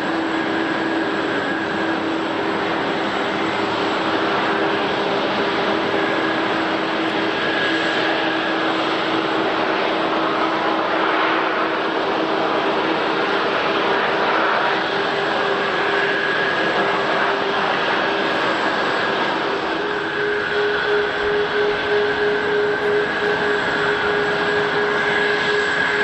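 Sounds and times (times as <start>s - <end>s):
high engine whine: 0.0s - 26.0s
jet engines rushing: 0.0s - 26.0s.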